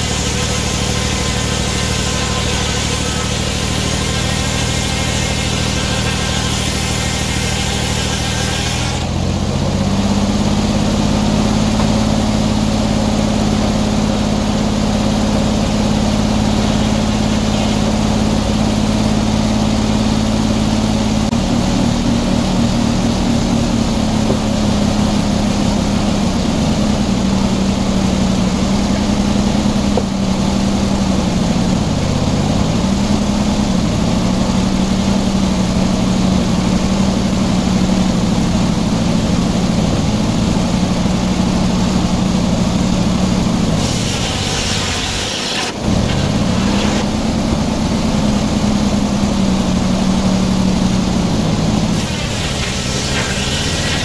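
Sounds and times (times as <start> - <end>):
sawmill engine running: 0.0 - 54.0
steady mill noise: 0.0 - 54.0.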